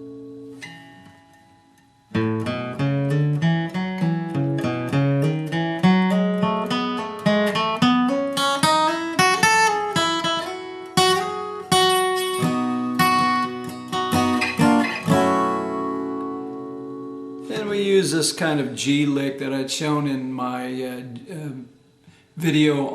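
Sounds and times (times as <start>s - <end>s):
acoustic guitar flatpicked lead: 0.0s - 22.9s.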